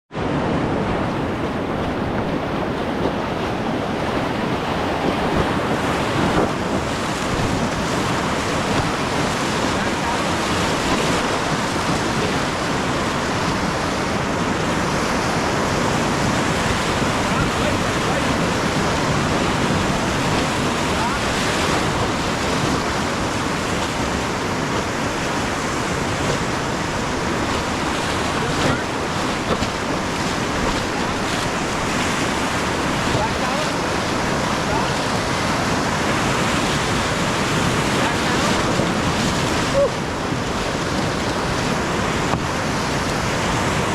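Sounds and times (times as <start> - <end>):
river rapid rushing: 0.1 - 43.9
wind on microphone: 0.1 - 43.9.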